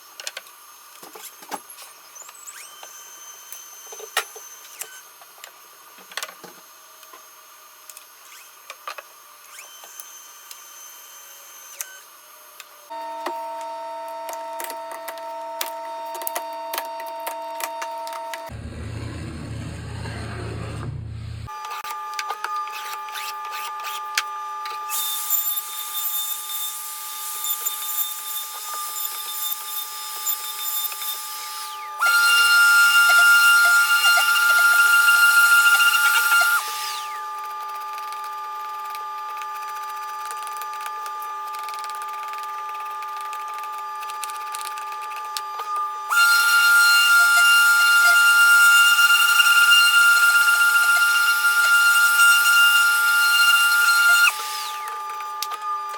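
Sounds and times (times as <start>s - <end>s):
power tool motor whining: 6.9s - 18.5s, 21.5s - 55.9s.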